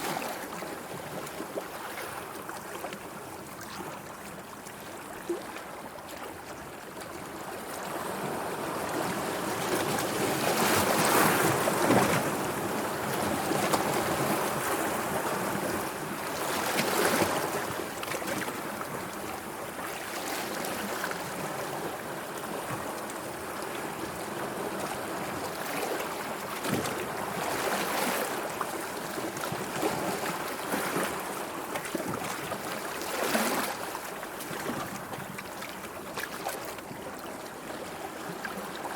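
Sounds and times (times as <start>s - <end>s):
sea water washing and lapping: 0.0s - 38.9s.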